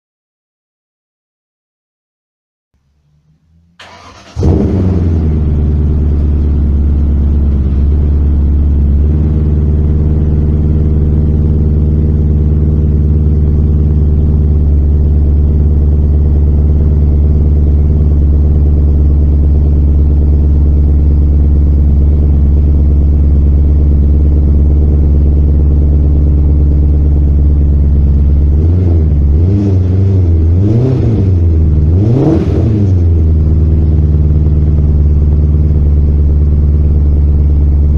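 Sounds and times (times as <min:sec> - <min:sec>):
car engine starting and idling: 0:02.8 - 0:37.9
engine revving: 0:02.8 - 0:37.9.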